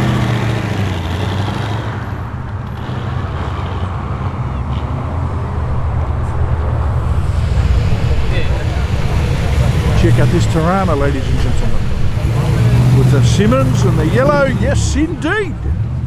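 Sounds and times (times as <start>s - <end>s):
car engine driving past: 0.0s - 16.0s.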